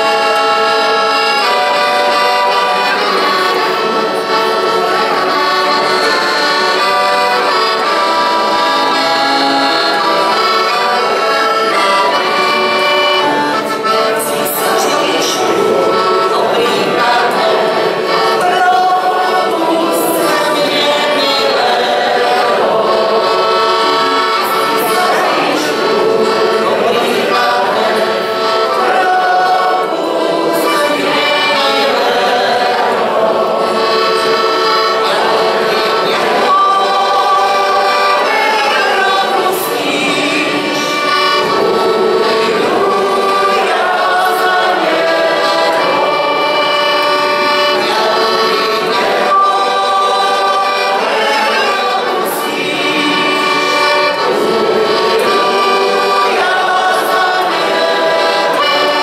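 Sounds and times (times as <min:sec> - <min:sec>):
accordion folk tune: 0:00.0 - 0:59.0.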